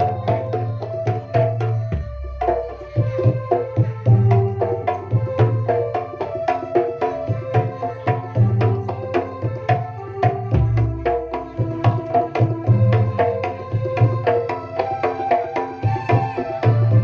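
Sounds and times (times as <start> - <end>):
hand drums playing fast rhythm: 0.0 - 17.0.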